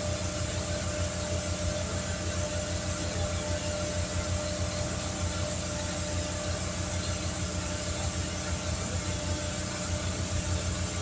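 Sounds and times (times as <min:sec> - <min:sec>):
motor running with low throb: 0:00.0 - 0:11.0.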